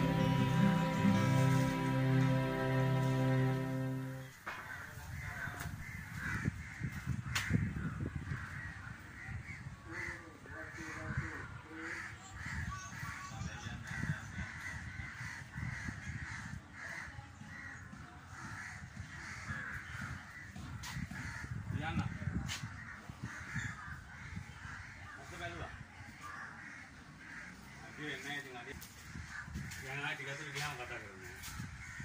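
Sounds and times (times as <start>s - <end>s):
crows cawing: 4.4s - 32.0s.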